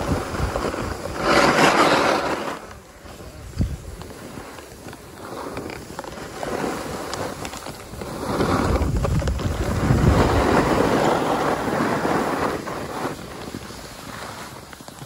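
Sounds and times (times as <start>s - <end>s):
wind on microphone: 0.0s - 4.5s, 5.3s - 14.0s
snowboard scraping over snow: 0.0s - 15.0s.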